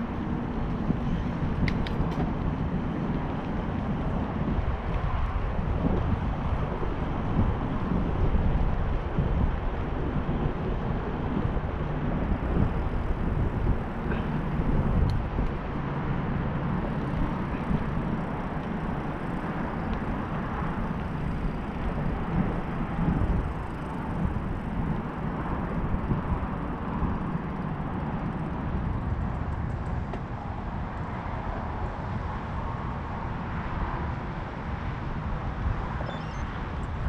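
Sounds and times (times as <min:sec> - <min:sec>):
tyre noise on pavement: 0:00.0 - 0:31.8
wind buffeting microphone: 0:00.0 - 0:37.0.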